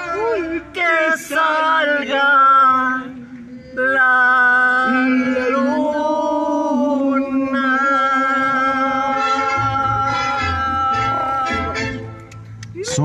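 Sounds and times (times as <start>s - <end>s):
voices singing long notes: 0.0s - 13.0s.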